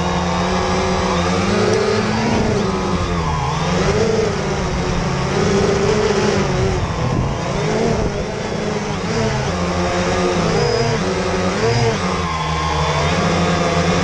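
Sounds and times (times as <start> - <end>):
drone propellers whirring: 0.0 - 14.0.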